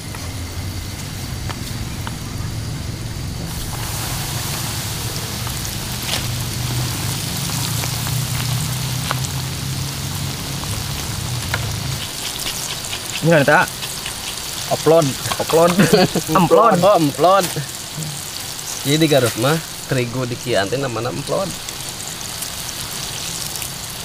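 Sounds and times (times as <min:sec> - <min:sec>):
steady low hum: 0:00.0 - 0:22.1
oil sizzling in frying pan: 0:00.0 - 0:24.0.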